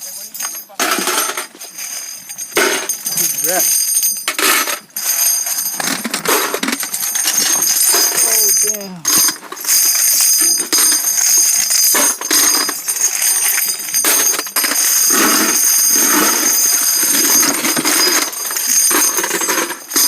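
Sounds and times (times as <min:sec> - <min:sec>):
brass casings clinking: 0:00.0 - 0:20.0.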